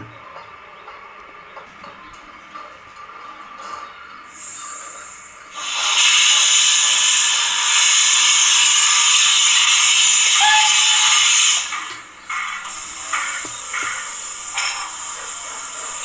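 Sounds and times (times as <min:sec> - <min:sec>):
steam hiss: 0:02.6 - 0:16.0.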